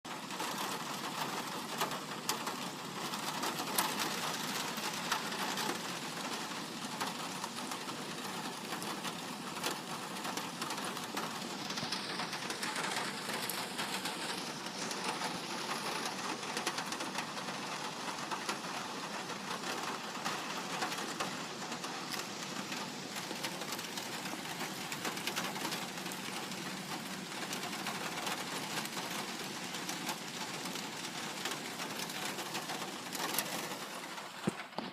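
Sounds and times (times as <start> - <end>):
light rain on a metal roof: 0.0 - 34.9.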